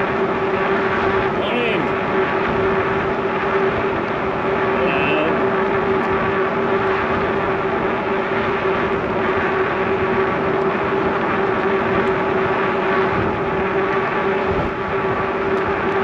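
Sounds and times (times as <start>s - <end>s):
constant hum: 0.0s - 16.0s
wind on microphone: 0.0s - 16.0s.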